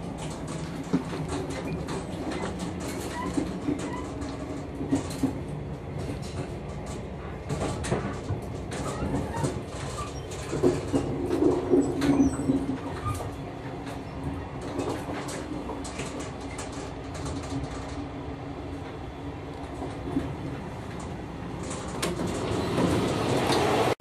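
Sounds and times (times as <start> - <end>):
train coach rolling rumble: 0.0 - 24.0.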